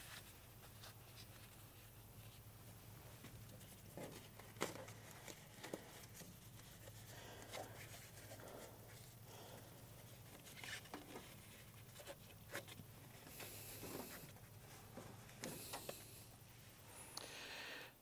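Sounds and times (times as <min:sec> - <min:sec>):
hands handling foam insulation: 0:00.0 - 0:16.4
low steady hum: 0:00.0 - 0:18.0.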